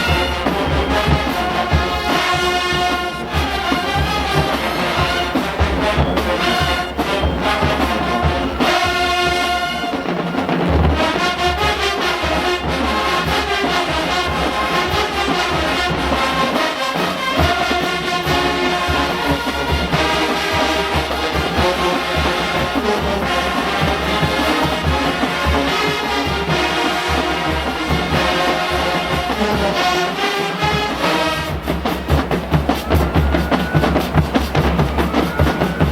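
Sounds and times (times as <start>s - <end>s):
steady drum beat: 0.0s - 35.9s
trombones and trumpets: 0.0s - 35.9s.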